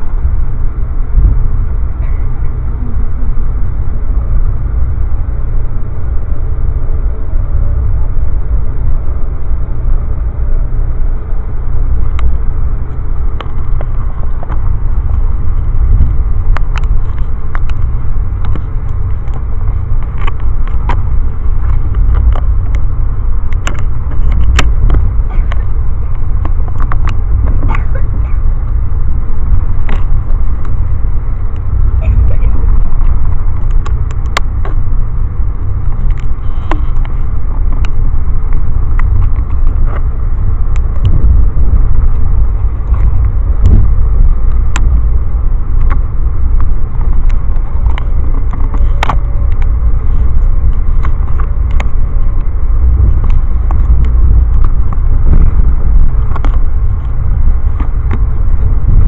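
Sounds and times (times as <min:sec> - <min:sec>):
sharp clicks and rattles: 0:00.0 - 0:59.0
train car low rumble: 0:00.0 - 0:59.0.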